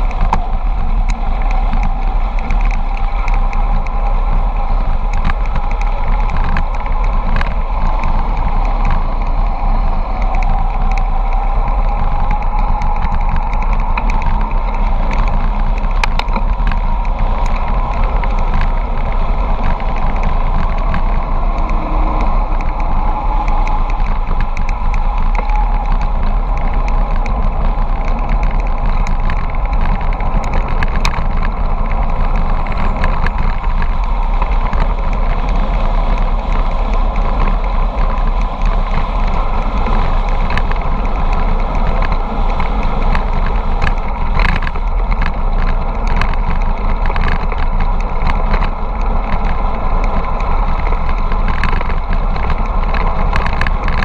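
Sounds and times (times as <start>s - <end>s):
bicycle tyre noise on asphalt: 0.0s - 54.0s
small clicks: 0.0s - 54.0s
wind rushing over microphone: 0.0s - 54.0s.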